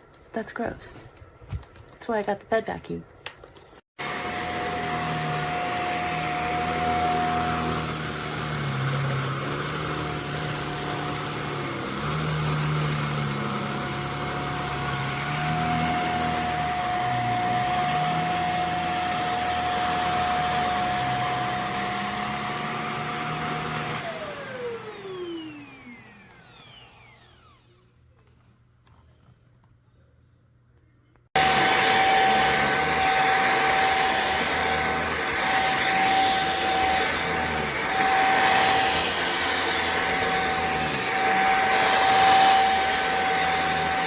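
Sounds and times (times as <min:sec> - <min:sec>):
vacuum cleaner running: 0:04.0 - 0:28.0, 0:31.4 - 0:44.0.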